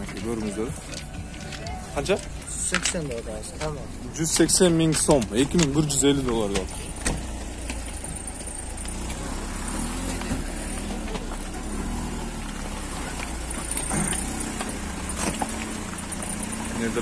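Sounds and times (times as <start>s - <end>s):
distant voices: 0.0s - 17.0s.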